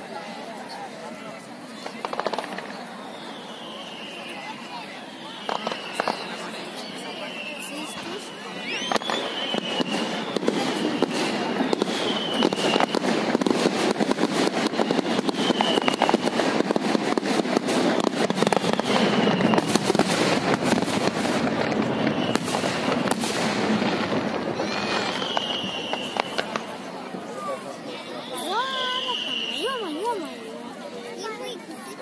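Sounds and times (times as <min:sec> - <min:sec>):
fireworks bursting and crackling: 0:00.1 - 0:31.9
high whistling fireworks: 0:00.1 - 0:32.0.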